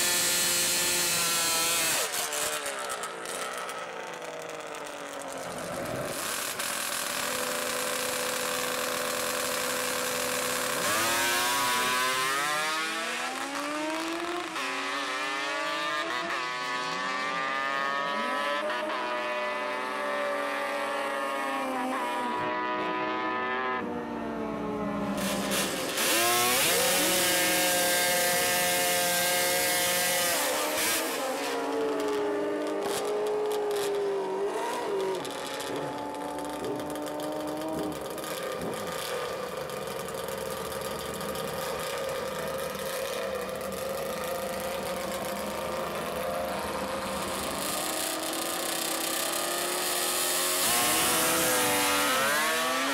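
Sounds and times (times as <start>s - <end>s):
motorcycle accelerating through gears: 0.0s - 52.9s
motorcycle revving and idling: 0.0s - 52.9s.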